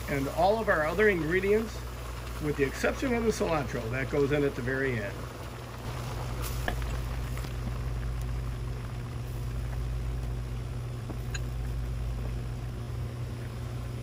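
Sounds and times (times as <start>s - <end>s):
pot bubbling on a stove: 0.0s - 14.0s
steady low hum: 0.0s - 14.0s.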